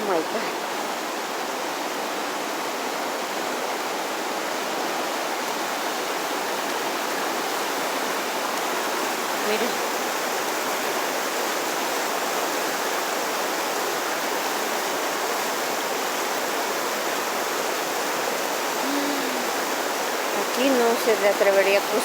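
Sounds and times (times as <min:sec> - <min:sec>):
floodwater river rushing: 0:00.0 - 0:22.0.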